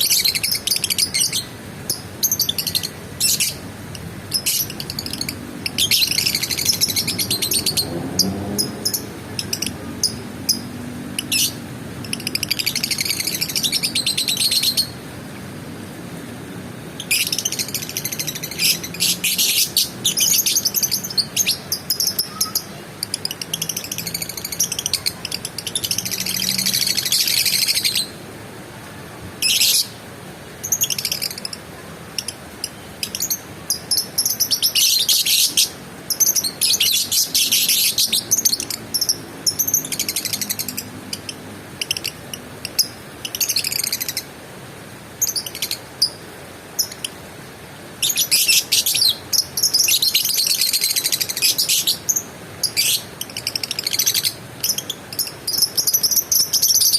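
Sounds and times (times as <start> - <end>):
lovebird chirping: 0.0 - 15.0, 17.0 - 28.2, 29.4 - 30.0, 30.6 - 31.6, 32.2 - 44.3, 48.0 - 56.9.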